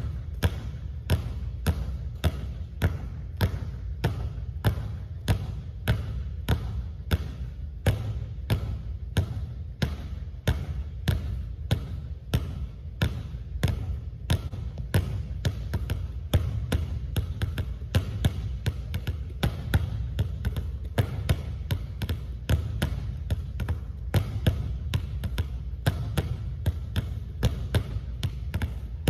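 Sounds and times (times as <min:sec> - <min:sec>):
basketballs bouncing on wooden floor: 0:00.0 - 0:29.0.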